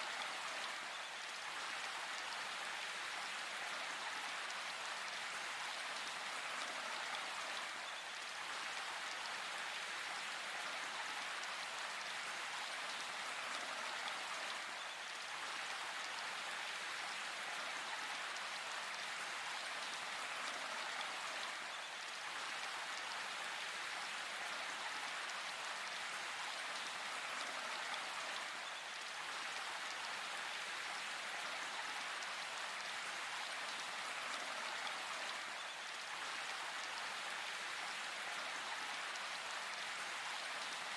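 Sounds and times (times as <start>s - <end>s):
steady rain in forest: 0.0s - 40.9s.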